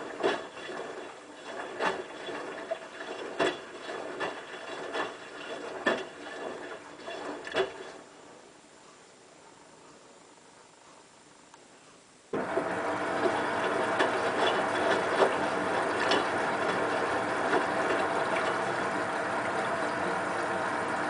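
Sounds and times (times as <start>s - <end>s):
washing machine water rushing: 0.0s - 8.3s, 12.4s - 21.0s
faint hum: 0.0s - 21.0s.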